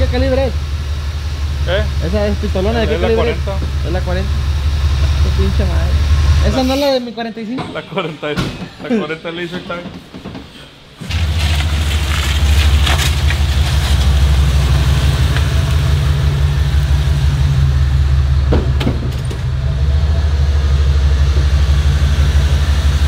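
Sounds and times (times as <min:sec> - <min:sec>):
pickup truck engine running: 0:00.0 - 0:06.6, 0:11.0 - 0:23.0.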